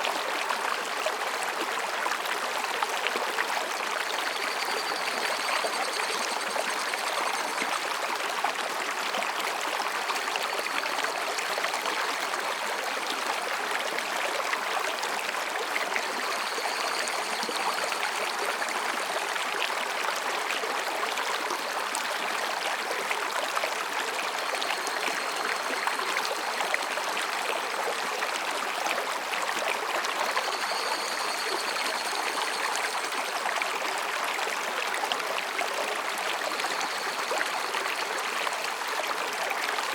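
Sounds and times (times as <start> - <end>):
stream flowing between rocks: 0.0 - 39.9.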